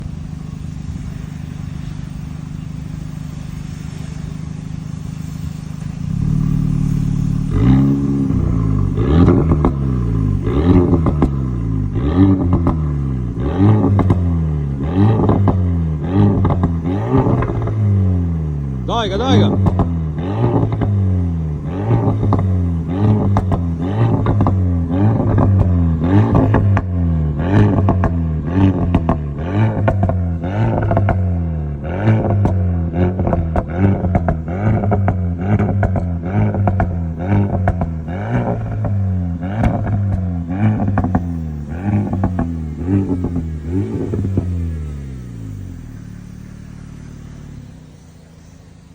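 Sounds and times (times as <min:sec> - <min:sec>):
car engine revving: 0:00.0 - 0:48.9
exhaust crackles and pops: 0:00.0 - 0:48.9.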